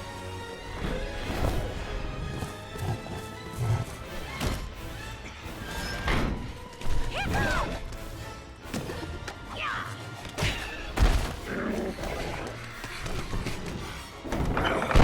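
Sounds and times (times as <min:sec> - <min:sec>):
orchestral music: 0:00.0 - 0:15.0.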